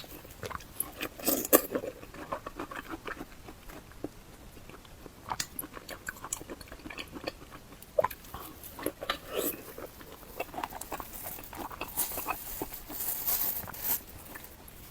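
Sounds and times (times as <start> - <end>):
person chewing with wet smacks: 0.0 - 13.0.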